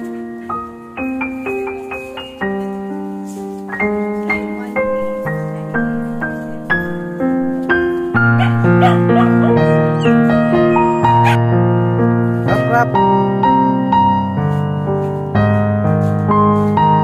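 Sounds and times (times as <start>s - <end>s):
piano notes and chords: 0.0s - 17.0s.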